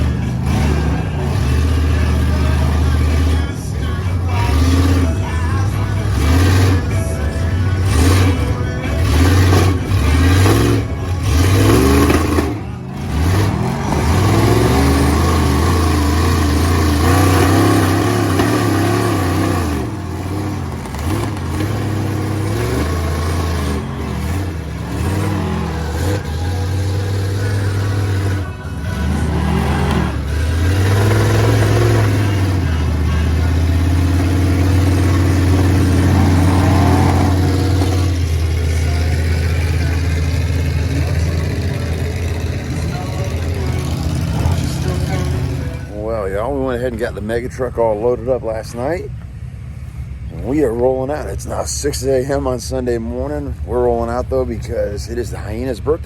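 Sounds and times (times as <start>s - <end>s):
background music: 0.0s - 55.3s
truck engines revving: 0.0s - 56.0s.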